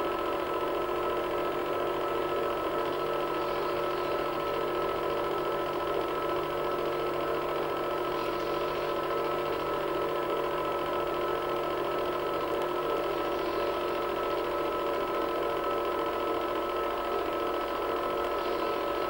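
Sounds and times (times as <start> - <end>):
film projector whirring: 0.0 - 19.0.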